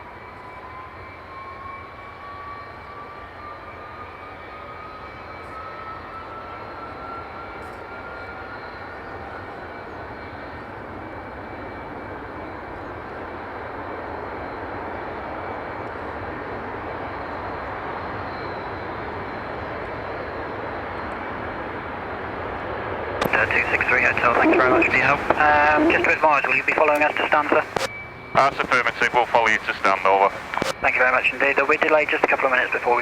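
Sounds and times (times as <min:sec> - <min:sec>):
jet engine whine rising: 0:00.1 - 0:33.0
jet engine rushing roar: 0:00.2 - 0:33.0.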